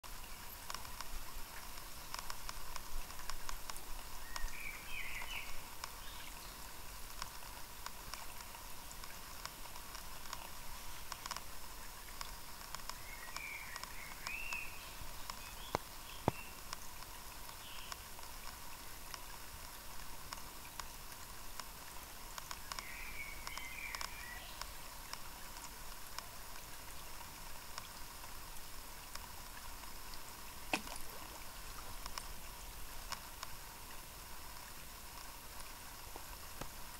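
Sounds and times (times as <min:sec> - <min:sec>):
creek water patter: 0:00.0 - 0:36.9
steady hiss: 0:00.0 - 0:36.9.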